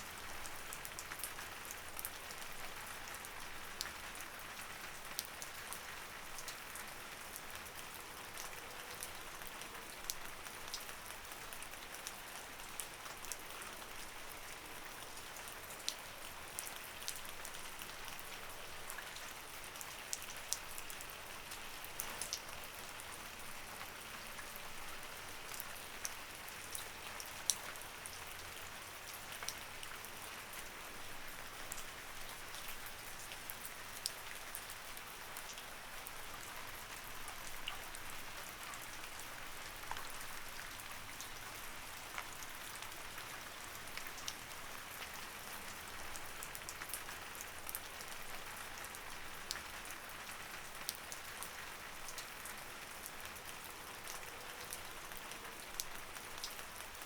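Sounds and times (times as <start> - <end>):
light rain hiss: 0.0 - 57.0
raindrops ticking on a surface: 0.0 - 57.0.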